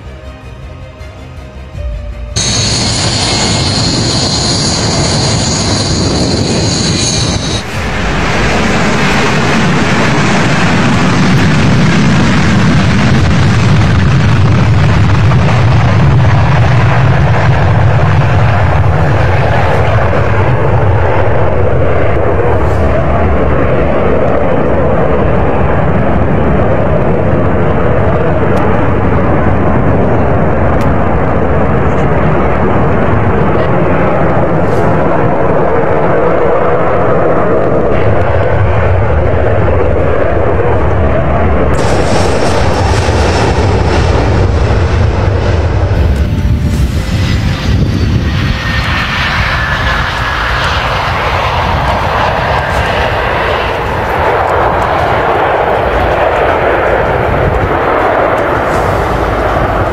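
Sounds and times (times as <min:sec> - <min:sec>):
jet engine rumble: 0:00.0 - 0:59.9.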